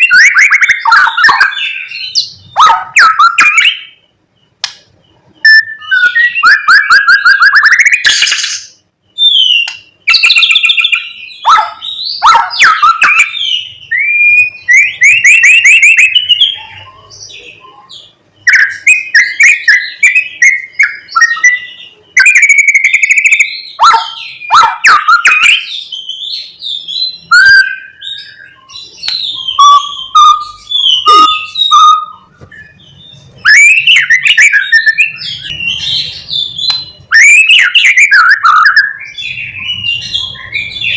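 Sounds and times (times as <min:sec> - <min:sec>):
songbird singing whistles and trills: 0:00.0 - 0:40.9.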